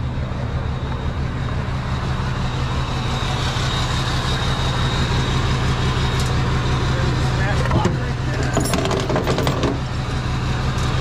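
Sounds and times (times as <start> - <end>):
tow truck engine idling: 0.0 - 11.0.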